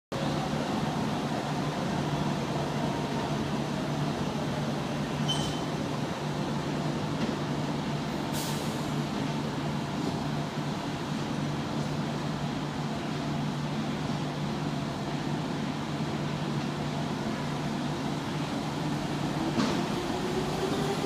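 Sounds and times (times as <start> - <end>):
train hum: 0.2 - 21.0.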